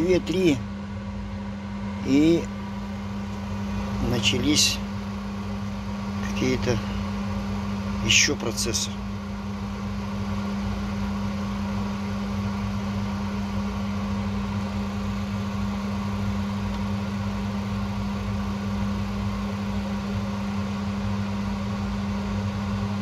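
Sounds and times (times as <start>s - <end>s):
electrical equipment hum: 0.0s - 23.0s.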